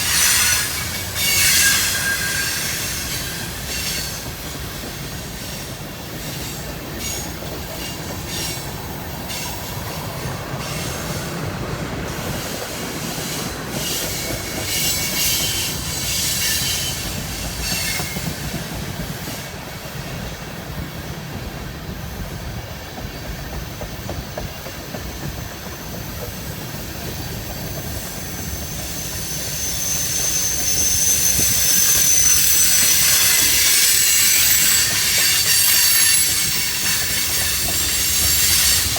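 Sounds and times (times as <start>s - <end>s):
high wheel squeal: 0.0s - 19.6s, 22.1s - 38.9s
freight train wheels clicking over rail joints: 0.0s - 38.9s.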